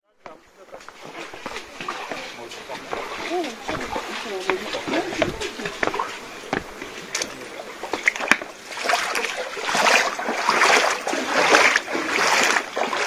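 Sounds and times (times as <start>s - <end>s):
water splashing in pool: 0.3s - 13.0s.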